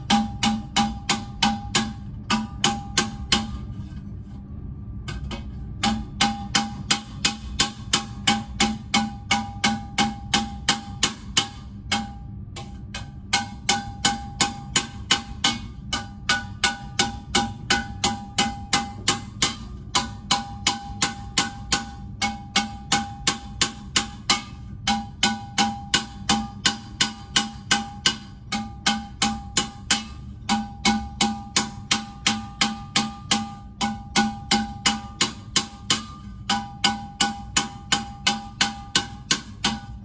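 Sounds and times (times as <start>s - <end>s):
hammer tapping copper: 0.0s - 4.1s, 5.0s - 40.0s.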